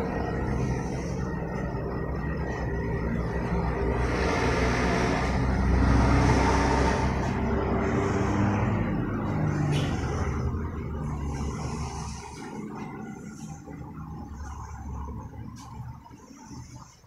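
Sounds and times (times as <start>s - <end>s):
vehicle passing: 0.0s - 15.6s.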